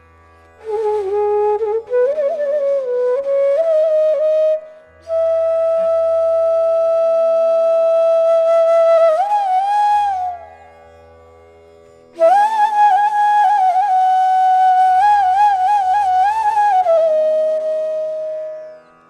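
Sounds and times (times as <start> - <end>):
solo flute melody: 0.6 - 10.9, 12.2 - 19.0.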